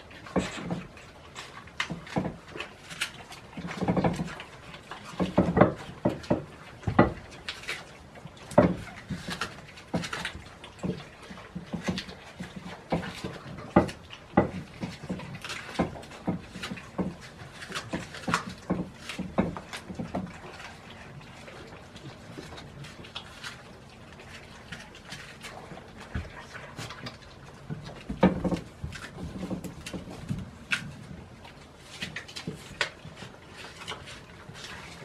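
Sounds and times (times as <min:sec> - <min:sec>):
goats snuffling and chewing: 0:00.0 - 0:35.0.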